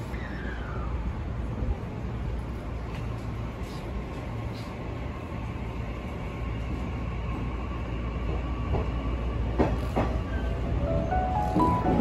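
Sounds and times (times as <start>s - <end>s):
electric train running rumble: 0.0s - 12.0s.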